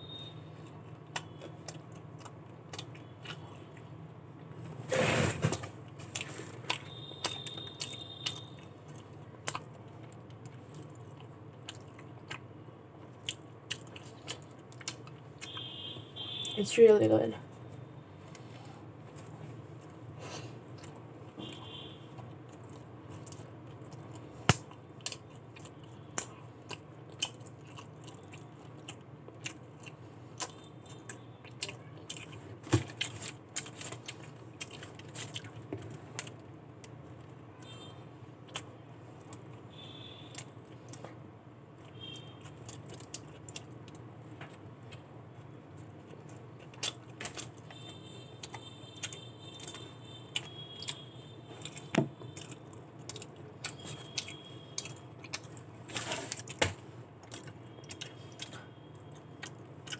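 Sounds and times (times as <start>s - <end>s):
chewing and biting food: 0.0s - 4.0s, 5.4s - 15.7s, 18.3s - 37.7s, 38.4s - 41.2s, 41.8s - 59.9s.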